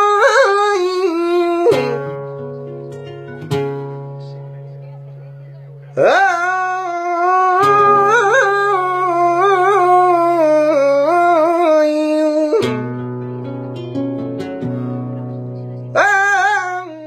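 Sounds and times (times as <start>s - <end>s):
flamenco guitar chords: 0.0s - 17.0s.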